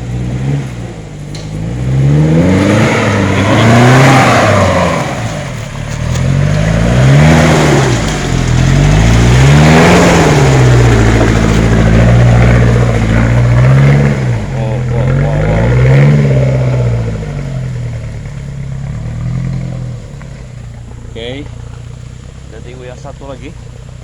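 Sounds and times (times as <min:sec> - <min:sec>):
engine revving hard: 0:00.0 - 0:20.5.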